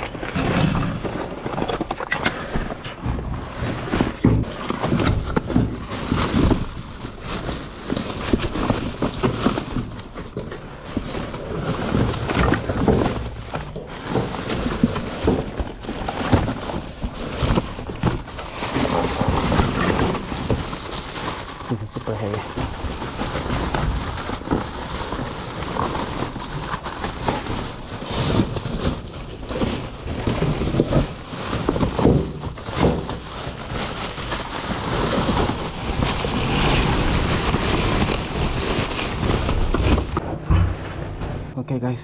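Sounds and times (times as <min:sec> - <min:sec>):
items knocking and thudding: 0:00.0 - 0:41.6
plastic bags and paper rustling: 0:00.0 - 0:42.0.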